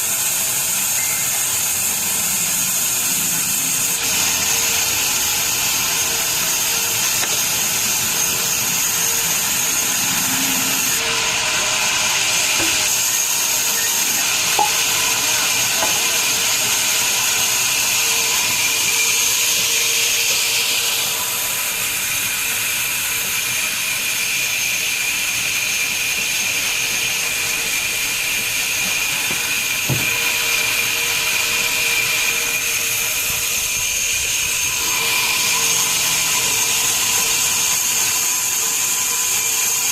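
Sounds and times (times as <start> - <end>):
high-pitched saw whine: 0.0 - 39.9
loud hiss: 0.0 - 39.9.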